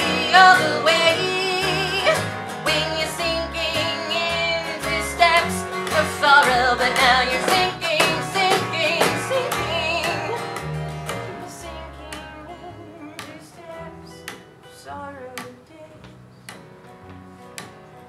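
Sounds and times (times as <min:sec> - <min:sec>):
acoustic guitars strumming: 0:00.0 - 0:18.0
plucked upright bass: 0:00.0 - 0:18.0.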